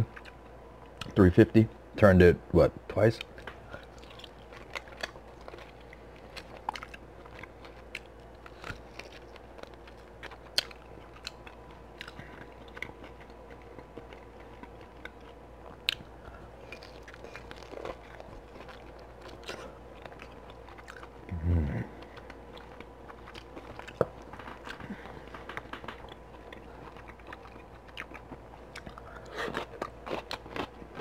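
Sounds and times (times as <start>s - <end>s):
faint steady hum: 0.0s - 31.0s
wet chewing with smacks: 3.2s - 21.3s, 21.9s - 31.0s.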